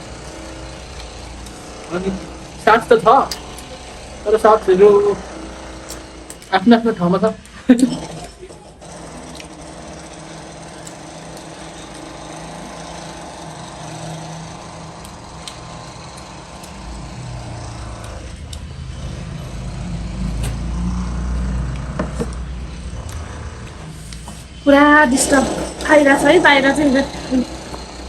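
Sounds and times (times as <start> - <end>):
machinery engine rumbling: 0.0 - 28.0.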